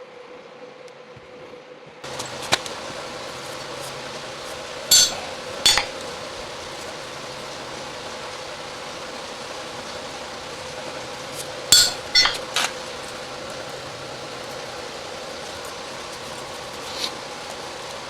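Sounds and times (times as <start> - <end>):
steady hum: 2.0 - 18.0.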